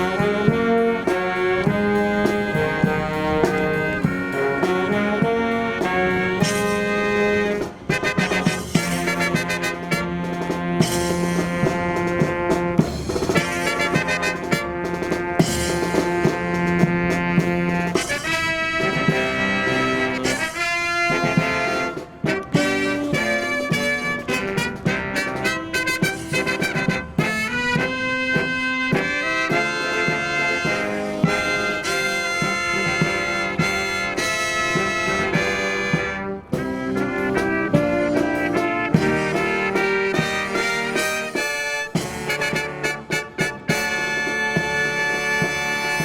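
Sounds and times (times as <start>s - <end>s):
brass marching band playing: 0.0s - 46.0s
drum strokes: 0.0s - 46.0s.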